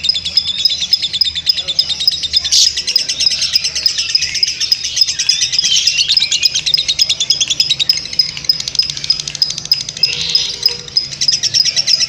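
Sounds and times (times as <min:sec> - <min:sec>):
lovebird chattering: 0:00.0 - 0:12.0.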